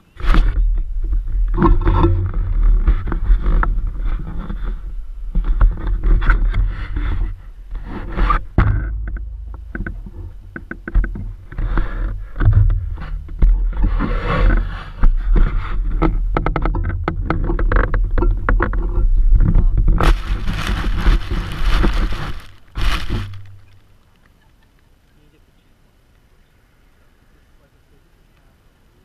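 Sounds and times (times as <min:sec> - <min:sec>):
handling noise scraping and knocks: 0:00.0 - 0:23.9
low wind rumble: 0:00.0 - 0:24.0.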